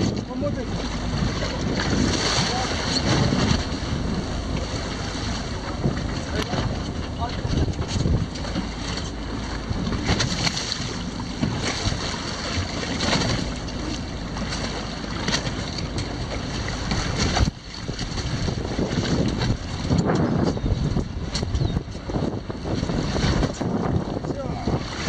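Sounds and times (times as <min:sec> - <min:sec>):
water sloshing against hull: 0:00.0 - 0:25.0
wind buffeting microphone: 0:00.0 - 0:25.0.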